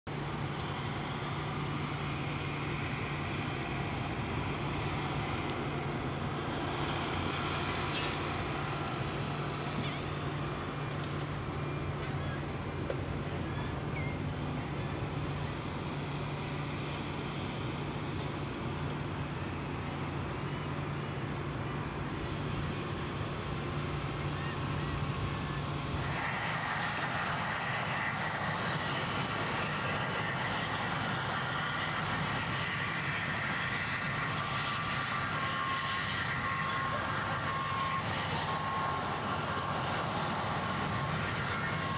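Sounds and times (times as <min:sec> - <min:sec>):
distant machinery hum: 0:00.1 - 0:41.9.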